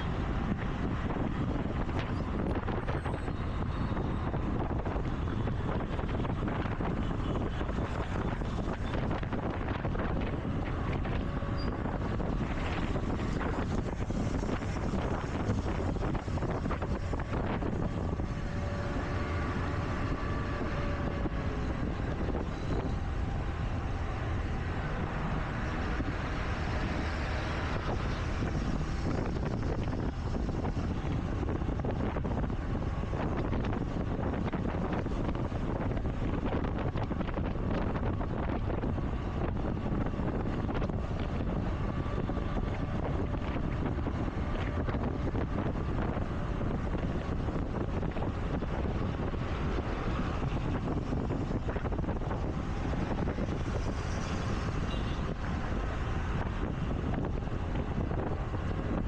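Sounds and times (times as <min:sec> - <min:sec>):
faint whining tone: 0:00.0 - 0:53.2
traffic: 0:00.0 - 0:59.0
wind rumble on microphone: 0:00.0 - 0:59.0.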